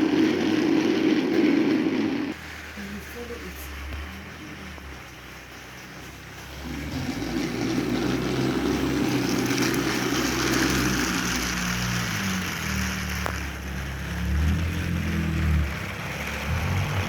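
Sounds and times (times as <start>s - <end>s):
toy train motor whirring: 0.0s - 17.0s.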